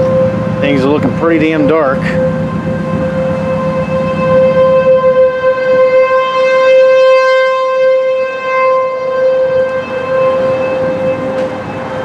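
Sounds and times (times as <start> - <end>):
warning siren steady tone: 0.0 - 12.0.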